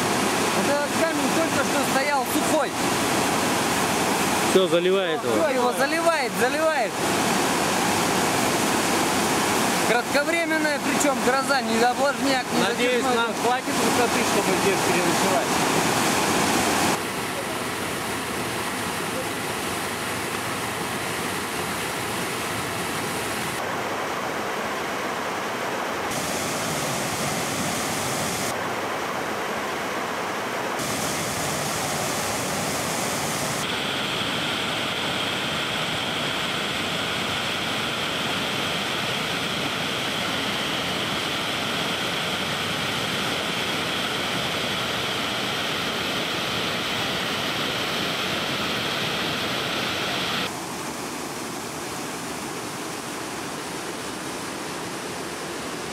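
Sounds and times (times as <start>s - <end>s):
water rushing over boulders: 0.0s - 55.9s.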